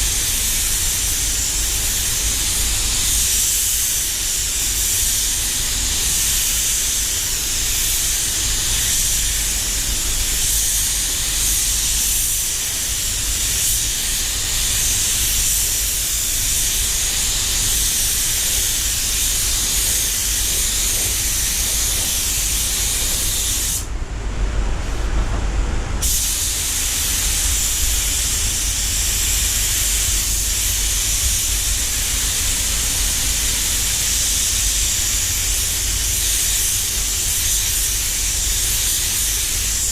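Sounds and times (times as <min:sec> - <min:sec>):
spray gun hissing: 0:00.0 - 0:23.9, 0:26.0 - 0:39.9.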